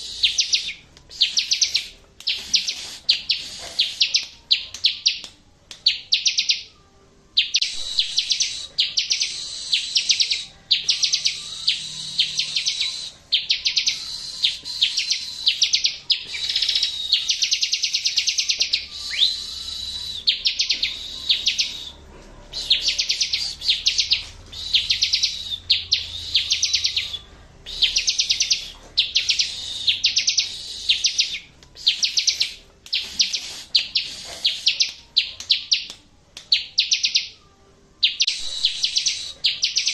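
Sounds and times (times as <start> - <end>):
bird singing chattering trills: 0.0 - 5.2, 7.4 - 35.9.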